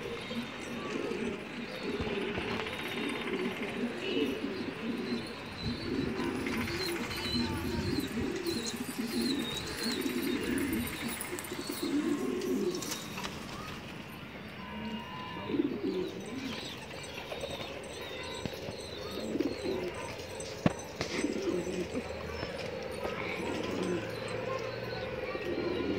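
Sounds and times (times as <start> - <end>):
pigeons cooing: 0.0 - 13.8, 14.8 - 25.9.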